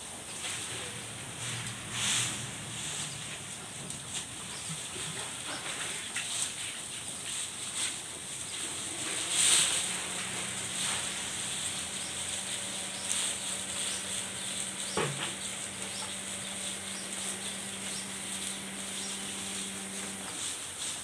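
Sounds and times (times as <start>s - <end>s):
steady low hum: 0.0s - 5.9s, 9.4s - 21.0s
cows chewing grass: 0.0s - 21.0s.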